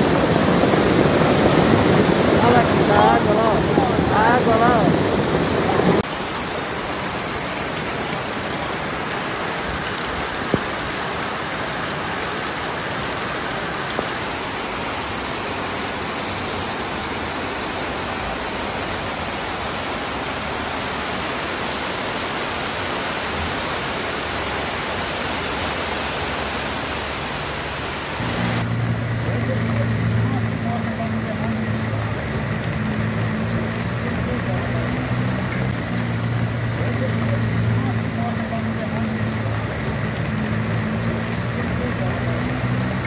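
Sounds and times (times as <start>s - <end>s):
floodwater rushing down street: 0.0s - 43.0s
heavy rain: 0.0s - 43.0s.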